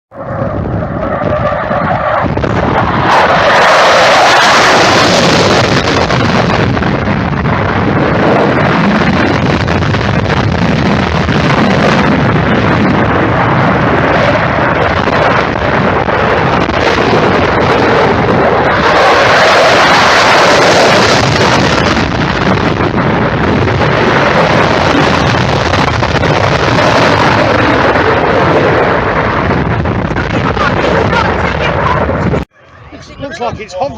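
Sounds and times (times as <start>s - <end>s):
jet engines roaring overhead: 0.1s - 33.9s.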